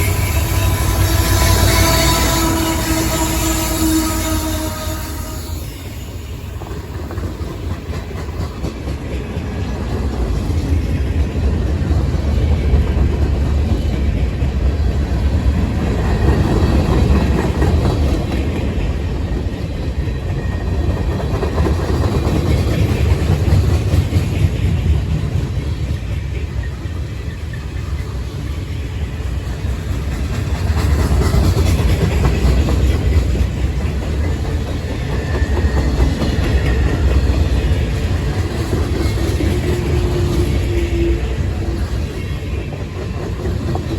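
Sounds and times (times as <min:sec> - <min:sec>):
freight train rumbling on rails: 0:00.0 - 0:43.9.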